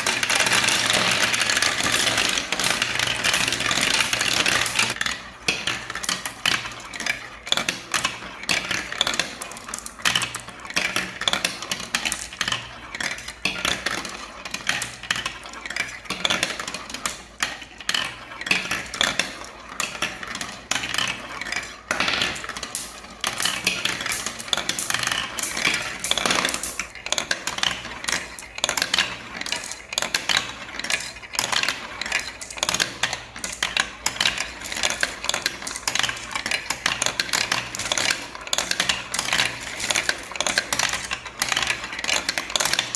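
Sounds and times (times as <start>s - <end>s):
balls rattling down marble run: 0.0s - 42.9s.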